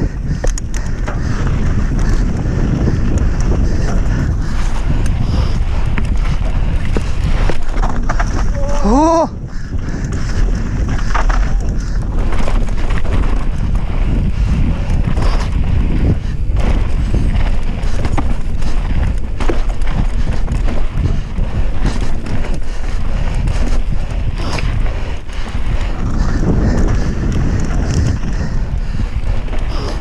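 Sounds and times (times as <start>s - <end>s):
bike rattling and knocking: 0.0s - 30.0s
tyres running over dirt: 0.0s - 30.0s
wind buffeting microphone: 0.0s - 30.0s.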